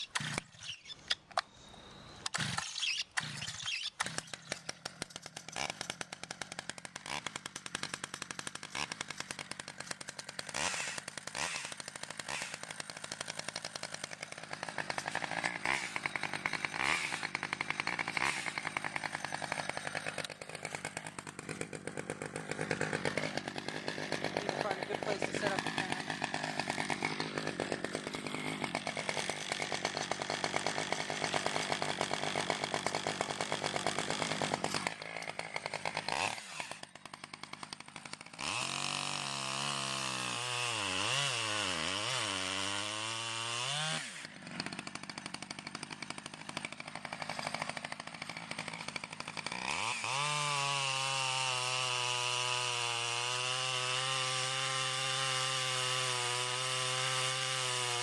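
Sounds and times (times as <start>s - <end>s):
chainsaw engine revving: 0.0s - 1.1s, 1.8s - 58.0s.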